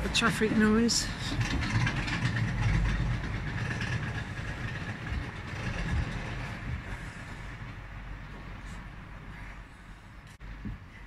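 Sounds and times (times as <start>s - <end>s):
passing motor vehicle: 0.0s - 9.9s.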